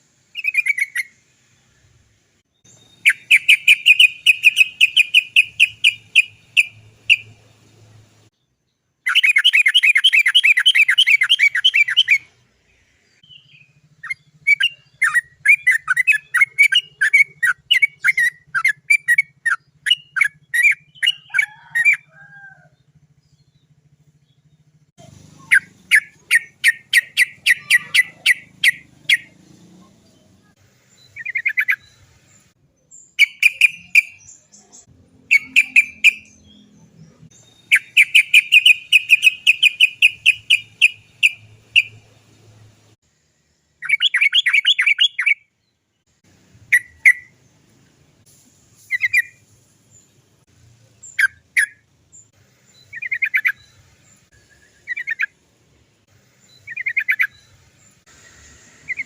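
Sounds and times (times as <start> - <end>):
bulbul chattering song: 0.2 - 8.3, 9.0 - 43.0, 43.6 - 45.6, 46.3 - 59.0.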